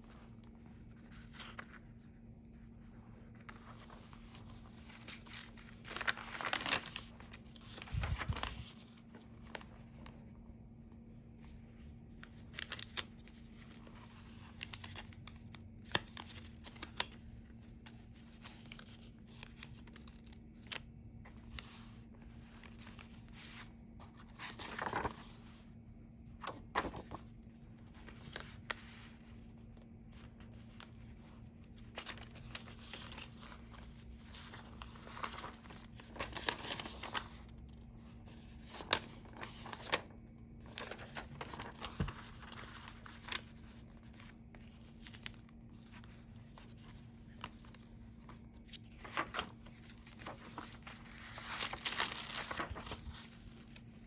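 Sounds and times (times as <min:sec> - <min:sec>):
paper pages rustling: 0:00.0 - 0:10.4, 0:11.3 - 0:25.8, 0:26.4 - 0:54.0.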